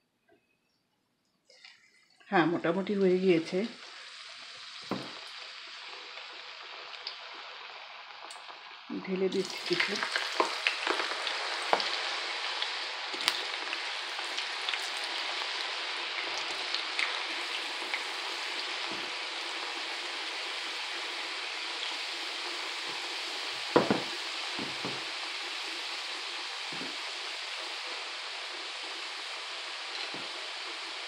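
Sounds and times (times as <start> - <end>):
oil sizzling and popping: 1.5 - 31.0.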